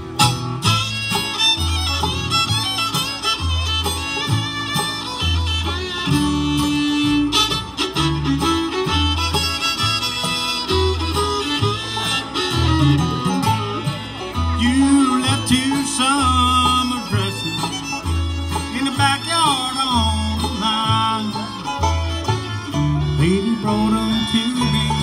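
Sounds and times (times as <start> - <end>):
bass notes: 0.0 - 25.0
fiddle with sliding notes: 0.0 - 25.0
strummed acoustic guitar: 0.0 - 25.0.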